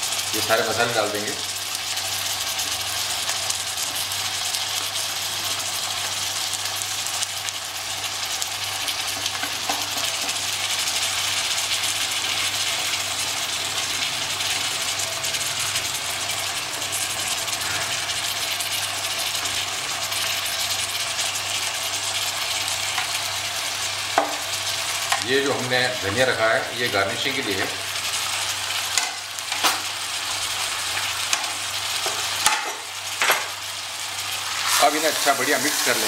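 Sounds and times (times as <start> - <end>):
meat sizzling in a pot: 0.0 - 36.0.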